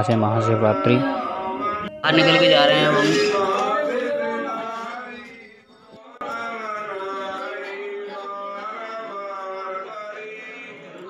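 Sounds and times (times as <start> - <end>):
men singing a devotional chant: 0.0 - 11.0.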